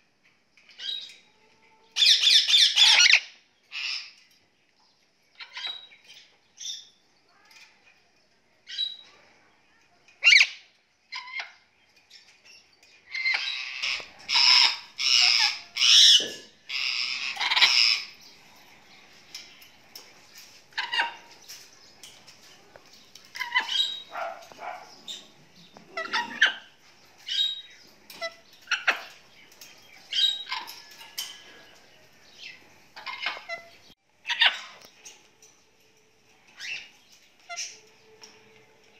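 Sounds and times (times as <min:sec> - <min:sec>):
parrots squawking and chirping: 0:00.7 - 0:01.3, 0:02.0 - 0:04.3, 0:05.3 - 0:07.0, 0:08.7 - 0:09.1, 0:10.2 - 0:35.3, 0:36.5 - 0:38.4.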